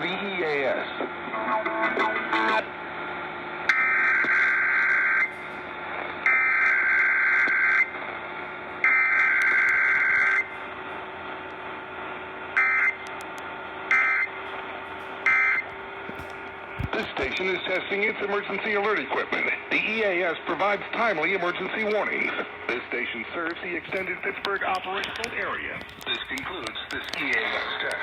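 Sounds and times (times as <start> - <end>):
low hum: 1.1 - 28.0
radio static: 3.7 - 28.0.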